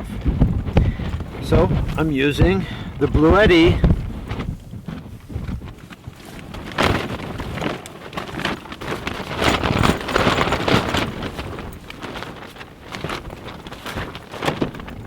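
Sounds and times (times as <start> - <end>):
strong gusting wind: 0.0 - 15.0
tent fabric flapping in wind: 0.0 - 15.0.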